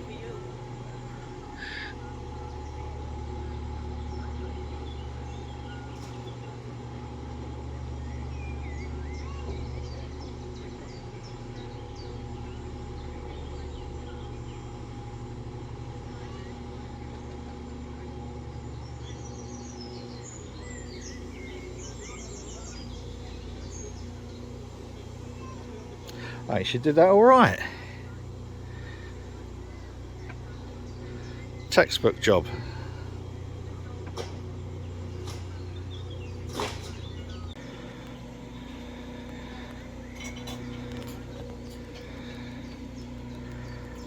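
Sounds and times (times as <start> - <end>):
birds chirping and singing: 0.0 - 44.0
boat diesel engine droning: 0.0 - 44.0.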